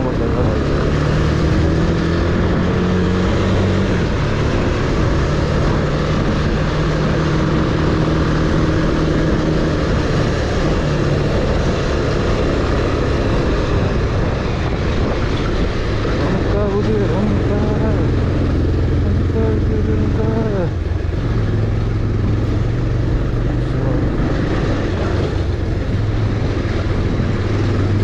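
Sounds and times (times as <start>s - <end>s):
motorcycle engine cruising: 0.0s - 28.0s
rush of riding noise: 0.0s - 28.0s.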